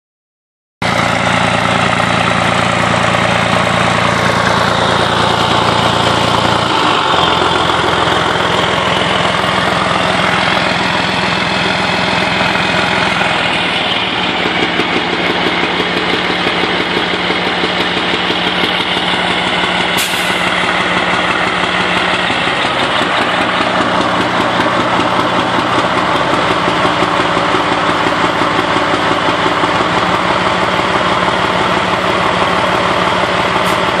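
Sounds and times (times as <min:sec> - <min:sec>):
diesel truck engine idling: 0:00.8 - 0:34.0.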